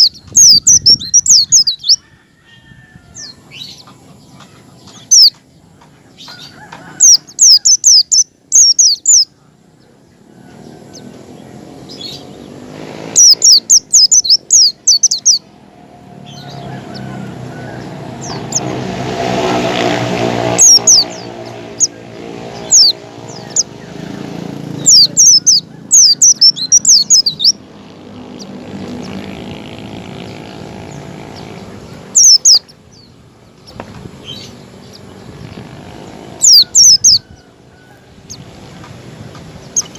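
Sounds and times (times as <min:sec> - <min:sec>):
bird chirps: 0:00.0 - 0:02.1, 0:03.0 - 0:15.5, 0:20.5 - 0:38.9, 0:39.6 - 0:39.9.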